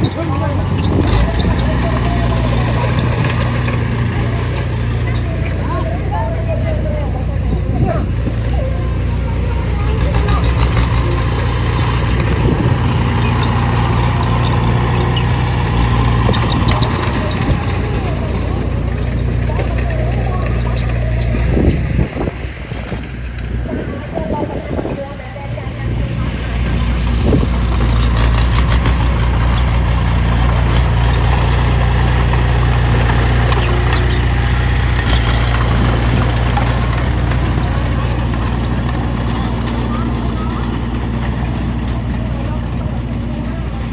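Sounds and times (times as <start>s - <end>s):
heavy machine engine humming: 0.0s - 43.9s.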